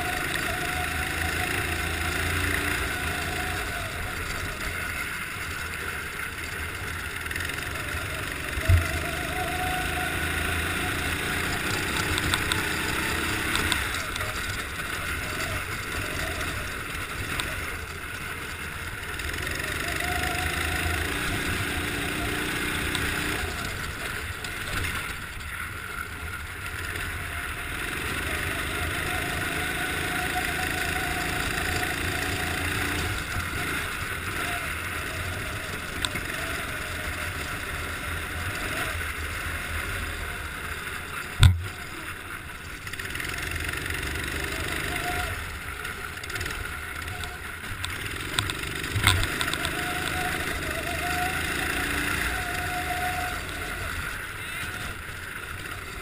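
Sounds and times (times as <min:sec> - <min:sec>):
go-kart engine accelerating: 0:00.0 - 0:56.0.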